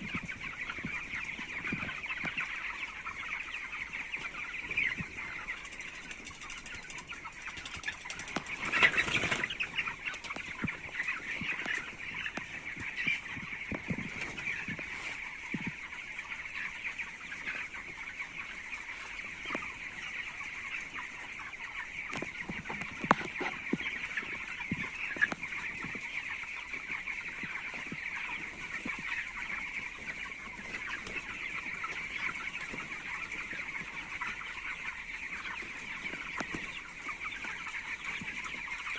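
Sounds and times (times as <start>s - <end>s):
chicks peeping: 0.0s - 38.9s
rustle or flutter: 0.8s - 38.9s.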